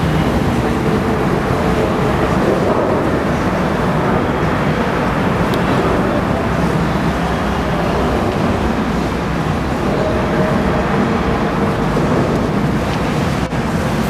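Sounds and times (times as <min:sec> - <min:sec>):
motorboat engine rumbling: 0:00.0 - 0:14.0
water wash: 0:00.0 - 0:14.0.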